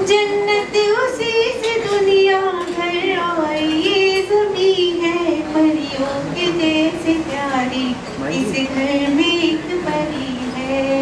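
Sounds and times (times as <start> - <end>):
woman singing slow melody: 0.0 - 11.0.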